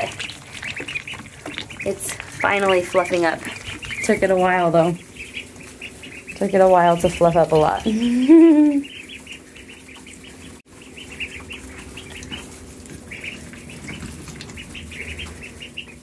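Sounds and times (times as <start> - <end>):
ducklings peeping: 0.0 - 16.0.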